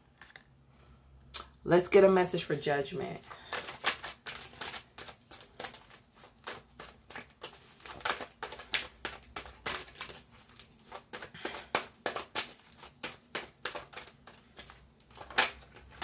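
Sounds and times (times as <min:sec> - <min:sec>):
cards being shuffled by hand: 0:03.2 - 0:16.0.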